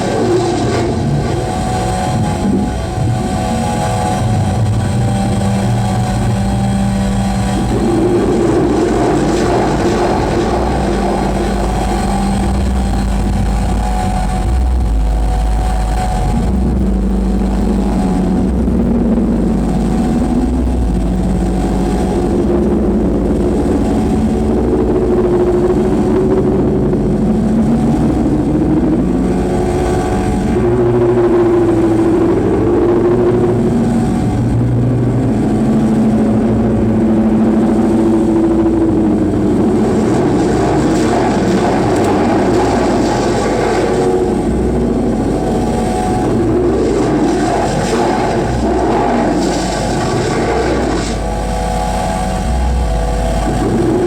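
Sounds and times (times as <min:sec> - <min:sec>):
heavy low rumble: 0:00.0 - 0:54.0
low throb: 0:00.0 - 0:54.0
wall of electronic noise: 0:00.0 - 0:54.0
wavering droning tones: 0:00.0 - 0:54.0.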